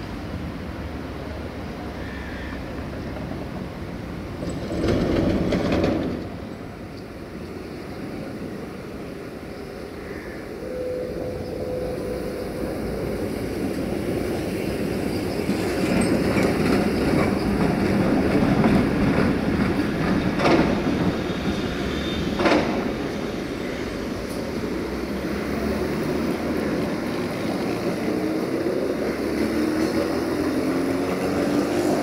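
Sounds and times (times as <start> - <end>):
tram wheels rumbling on rails: 0.0 - 32.0.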